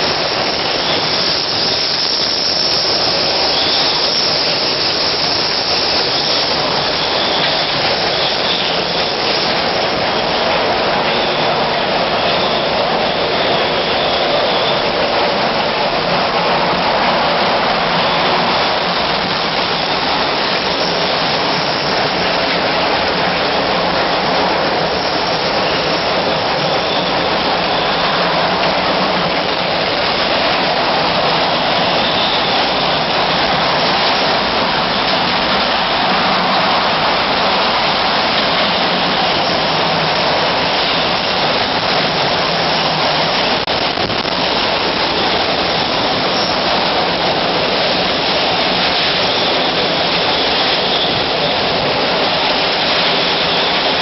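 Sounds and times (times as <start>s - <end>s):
storm wind and driven rain: 0.0s - 54.0s.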